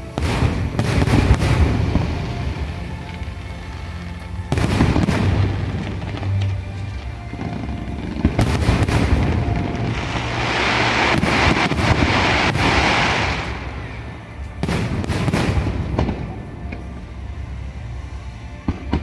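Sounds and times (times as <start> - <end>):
fireworks bangs: 0.0 - 19.0
loud firework hiss: 0.0 - 19.0
music: 0.0 - 19.0.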